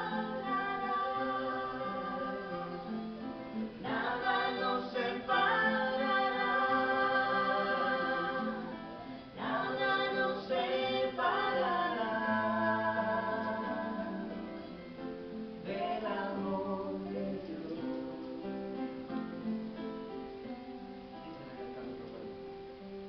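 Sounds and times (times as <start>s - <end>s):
voices singing: 0.0s - 22.2s
guitar accompaniment: 0.0s - 23.0s.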